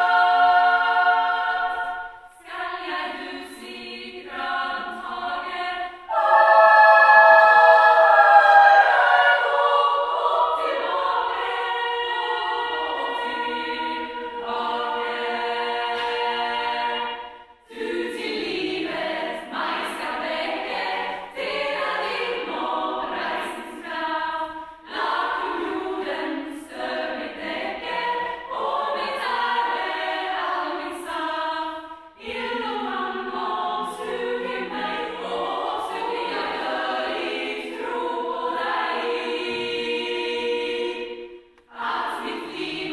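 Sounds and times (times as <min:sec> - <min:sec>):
women's choir singing a hymn: 0:00.0 - 0:42.9.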